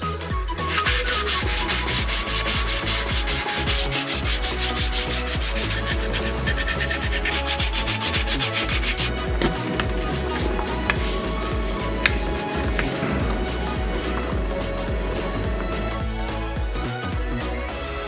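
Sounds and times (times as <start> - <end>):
background music: 0.0 - 18.0
sandpaper rubbing: 0.5 - 15.9.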